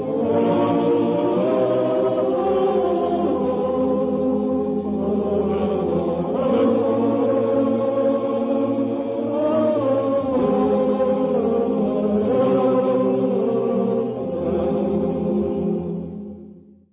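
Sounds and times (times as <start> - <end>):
male choir singing close harmony: 0.0 - 16.6.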